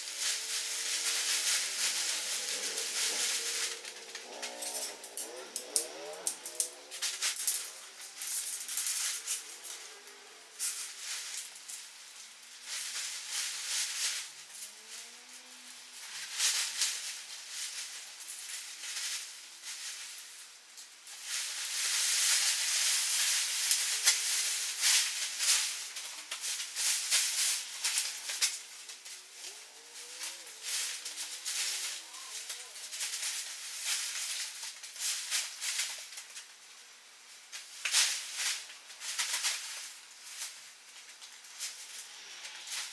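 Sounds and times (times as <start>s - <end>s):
tent fabric rustling and crinkling: 0.0s - 42.9s.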